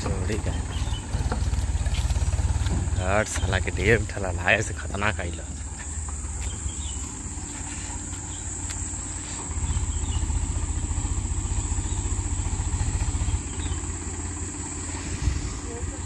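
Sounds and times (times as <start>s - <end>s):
insects chirping: 0.0s - 16.0s
tractor engine running: 0.0s - 16.0s.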